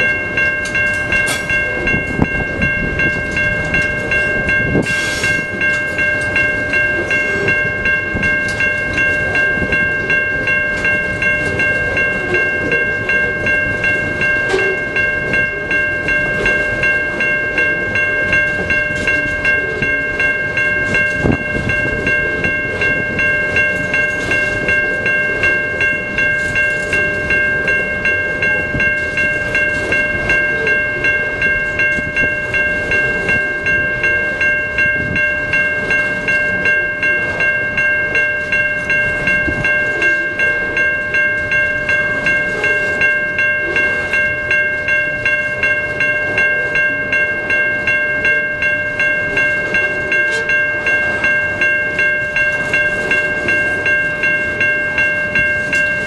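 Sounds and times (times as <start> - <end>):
freight train wheels clacking: 0.0 - 56.0
level crossing warning bell: 0.0 - 56.0.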